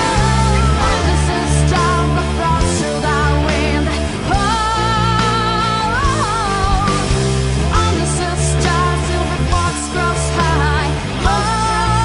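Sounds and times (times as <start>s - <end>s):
song with bass and lead melody: 0.0s - 12.0s.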